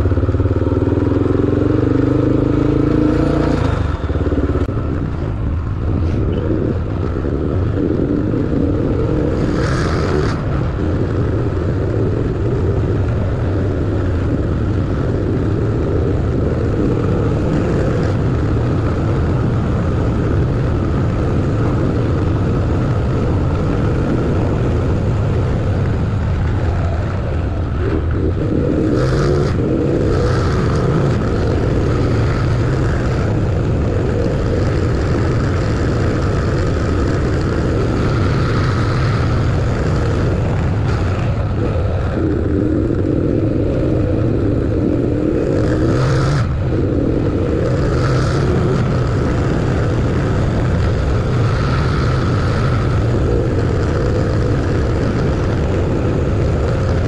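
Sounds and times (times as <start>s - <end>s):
car engine drone: 0.0s - 57.0s
tyre and road noise: 0.0s - 57.0s.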